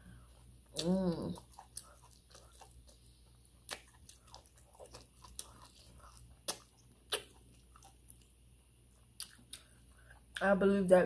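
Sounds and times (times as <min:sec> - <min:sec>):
person chewing: 0:00.1 - 0:10.4.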